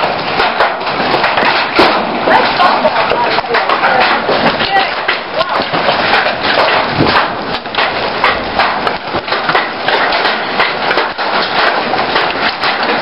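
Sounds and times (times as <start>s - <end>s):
hailstones clattering: 0.0s - 13.0s
rush of falling hail and rain: 0.0s - 13.0s.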